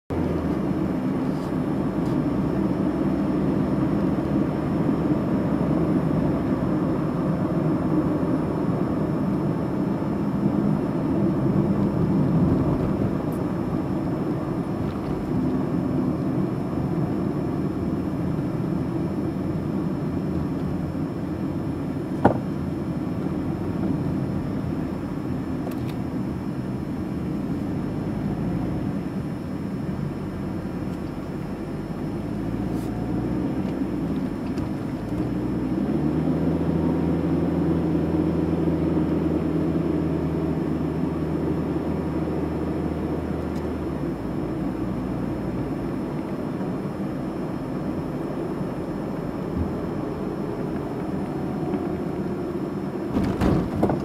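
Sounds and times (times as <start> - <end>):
car engine: 0.1 - 54.0
tyre road noise: 0.1 - 54.0.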